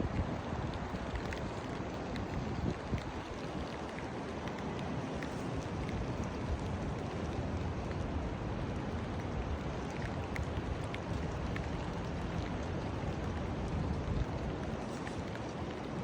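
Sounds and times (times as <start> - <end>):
raindrops ticking close by: 0.0 - 16.0
steady rain: 0.0 - 16.0.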